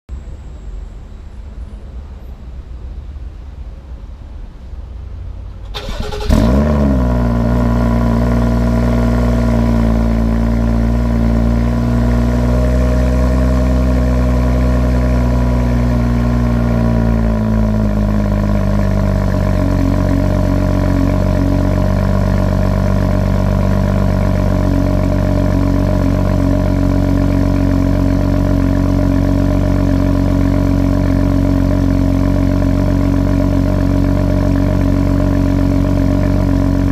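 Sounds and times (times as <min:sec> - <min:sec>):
car engine starting and idling: 0:04.1 - 0:36.9.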